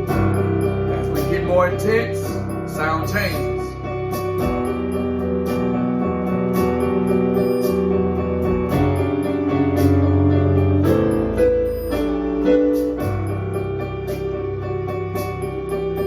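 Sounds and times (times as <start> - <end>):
keyboard playing sustained chords: 0.0 - 16.0.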